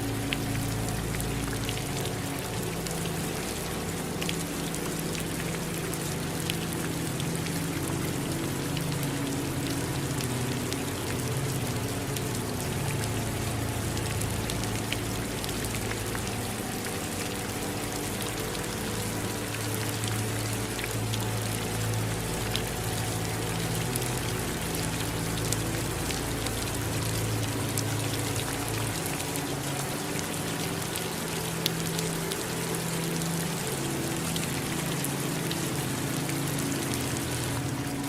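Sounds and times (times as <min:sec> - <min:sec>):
raindrops ticking close by: 0:00.0 - 0:38.0
steady rain falling: 0:00.0 - 0:38.0.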